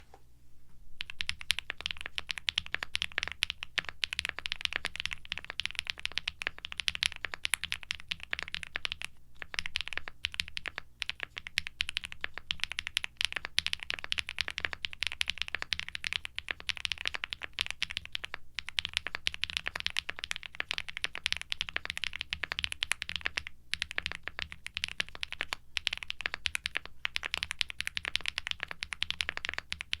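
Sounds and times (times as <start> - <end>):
fast typing on mechanical keyboard: 1.0 - 30.0.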